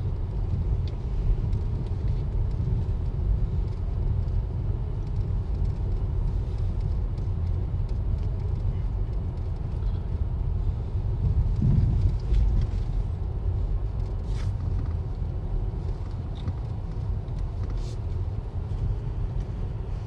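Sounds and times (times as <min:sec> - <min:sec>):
car road rumble on dirt road: 0:00.0 - 0:20.0.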